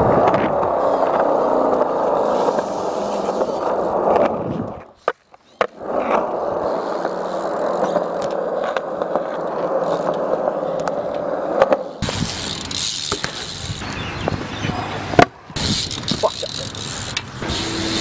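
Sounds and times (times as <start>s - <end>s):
wheels rolling on concrete: 0.0s - 18.0s.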